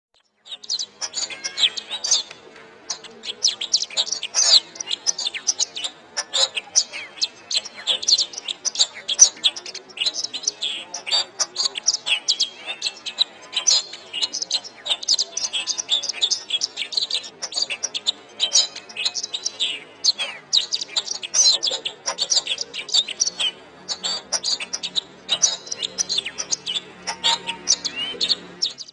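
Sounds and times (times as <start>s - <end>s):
canary singing: 0.2s - 28.9s.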